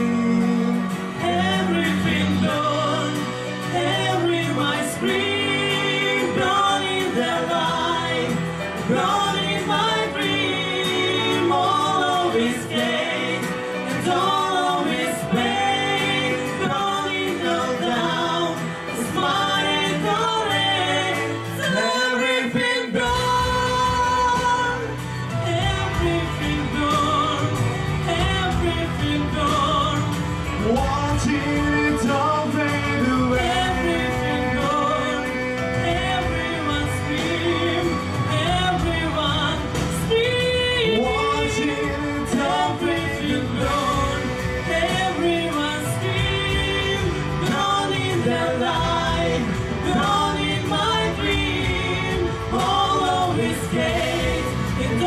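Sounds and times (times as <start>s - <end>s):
backing music with deep bass: 0.0s - 55.0s
man and woman singing duet: 0.0s - 55.0s.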